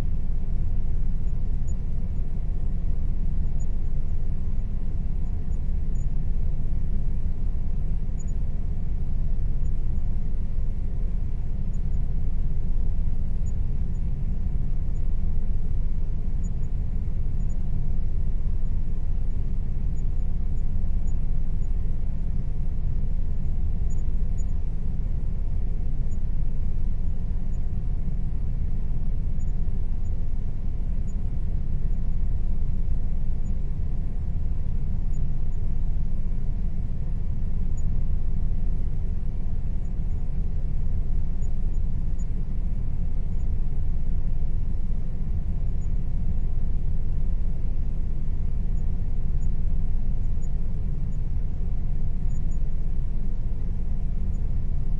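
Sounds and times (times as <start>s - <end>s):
air conditioner running: 0.0s - 54.9s.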